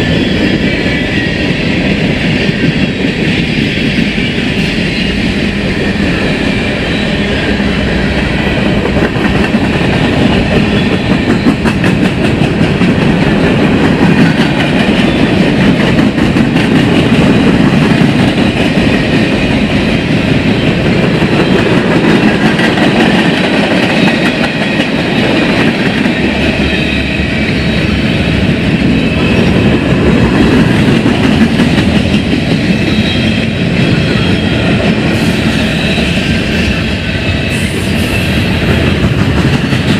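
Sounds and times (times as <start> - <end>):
steel wheels on rails: 0.0 - 39.9.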